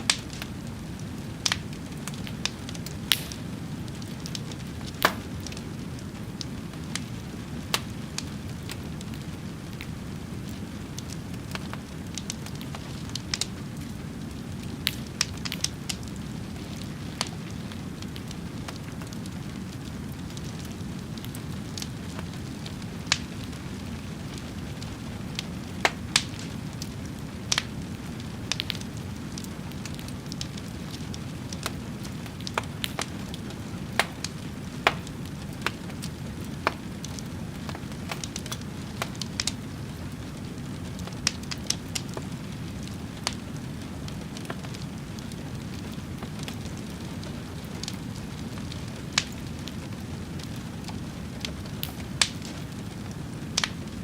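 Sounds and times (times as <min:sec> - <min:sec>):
fire crackling: 0:00.0 - 0:54.0
low rumble of flame: 0:00.0 - 0:54.0.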